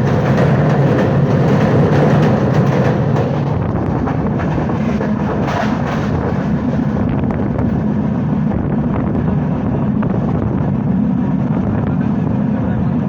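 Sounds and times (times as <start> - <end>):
train rumbling: 0.0 - 13.0
wind noise on microphone: 0.0 - 13.0.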